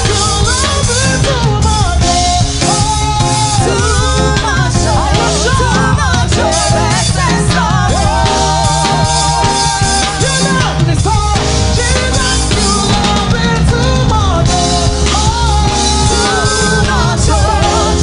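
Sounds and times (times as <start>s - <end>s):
gospel band playing: 0.0s - 18.0s
wavering held lead melody: 0.0s - 18.0s.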